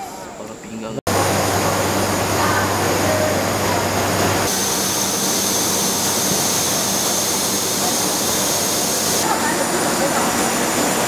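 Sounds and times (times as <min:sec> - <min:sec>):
factory machinery din: 0:01.1 - 0:11.0.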